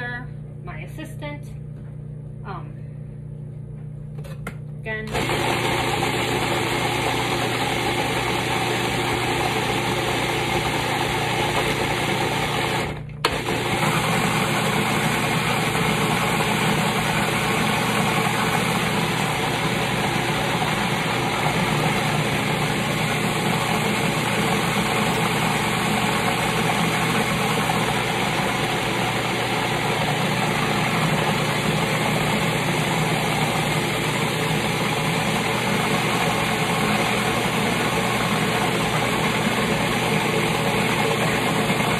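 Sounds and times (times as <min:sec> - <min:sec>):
food processor motor chopping: 0:04.2 - 0:41.9.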